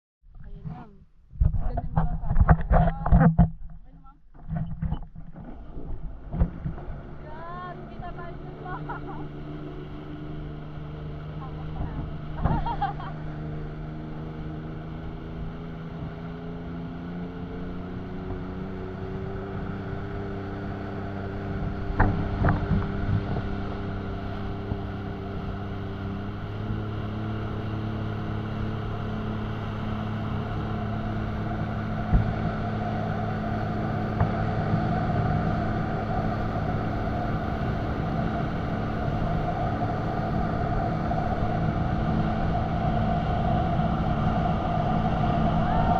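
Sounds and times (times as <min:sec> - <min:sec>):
jet ski engine running: 0:00.4 - 0:45.9.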